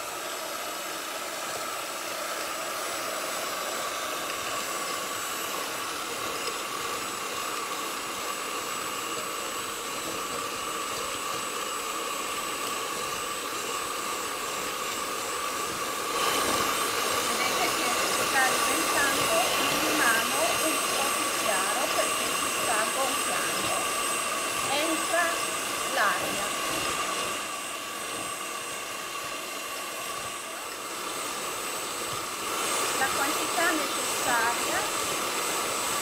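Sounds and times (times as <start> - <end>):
electric hand mixer whining: 0.0 - 36.0.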